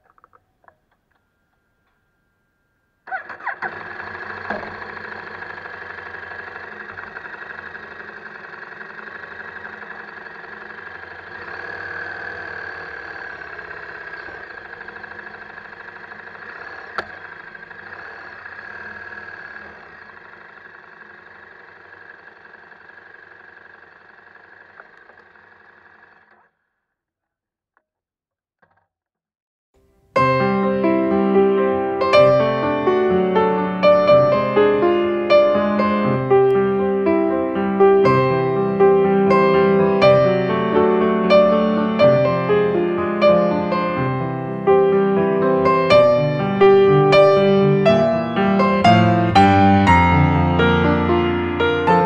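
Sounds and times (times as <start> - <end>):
motorcycle engine running: 3.1 - 26.5, 30.3 - 52.0.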